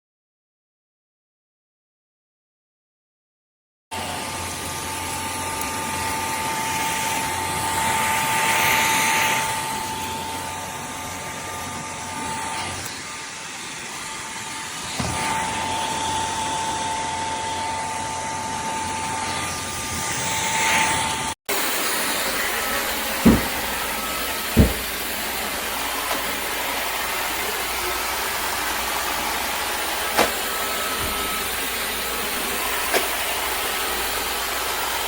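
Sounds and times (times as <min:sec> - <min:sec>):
stick vacuum running: 0:03.9 - 0:35.0.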